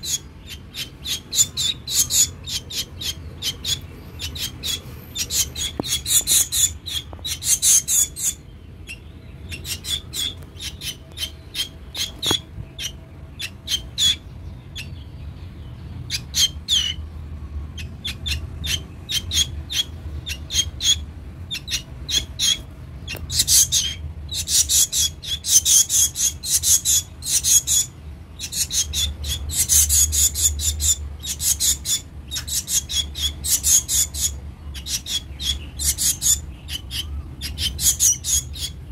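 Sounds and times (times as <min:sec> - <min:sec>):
bird making scratchy calls: 0:00.0 - 0:14.2, 0:17.8 - 0:38.9
low steady hum: 0:00.0 - 0:38.9.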